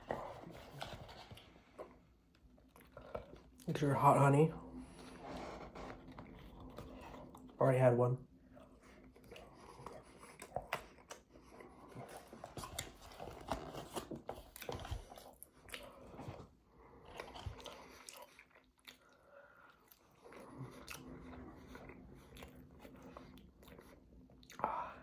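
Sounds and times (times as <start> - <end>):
person chewing crunchy food: 0.0 - 3.7, 4.8 - 7.6, 8.4 - 25.0.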